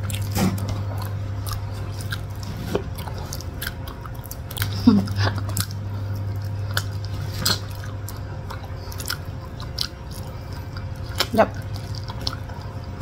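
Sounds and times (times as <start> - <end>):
steady low hum: 0.0 - 13.0
wet chewing and lip smacks: 0.0 - 13.0.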